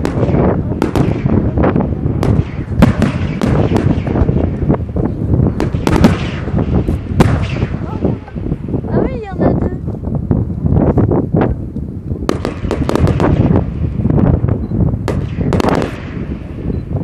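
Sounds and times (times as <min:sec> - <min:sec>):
fireworks bangs: 0:00.0 - 0:09.9, 0:12.2 - 0:17.0
low rumble of fireworks: 0:00.0 - 0:17.0.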